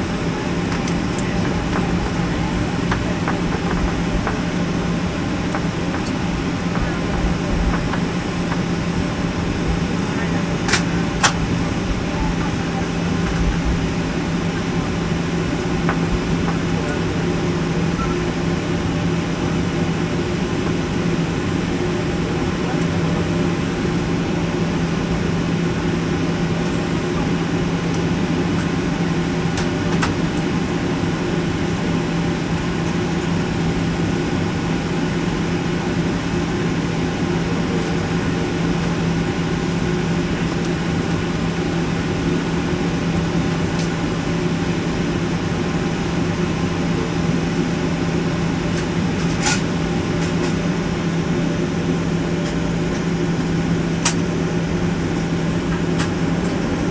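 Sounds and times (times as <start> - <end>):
aircraft engines droning: 0.0 - 56.9.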